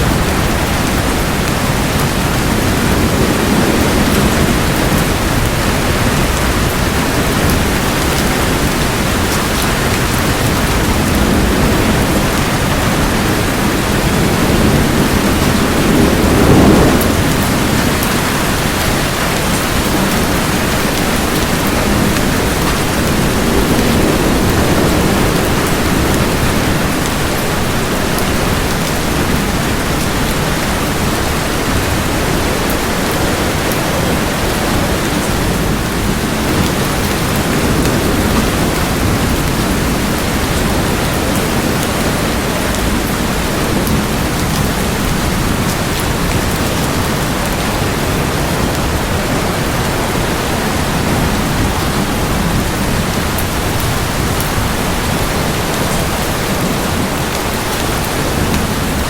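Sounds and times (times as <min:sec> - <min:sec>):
distant thunder rumble: 0:00.0 - 0:59.0
heavy rain: 0:00.0 - 0:59.0.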